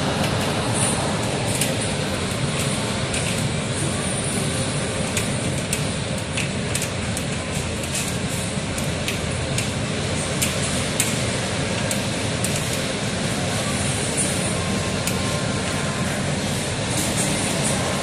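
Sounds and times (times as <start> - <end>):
heavy rain in wind: 0.0 - 18.0.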